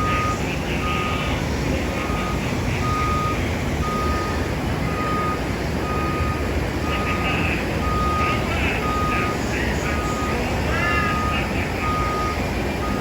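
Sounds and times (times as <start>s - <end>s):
reversing alarm beeping: 0.0s - 13.0s.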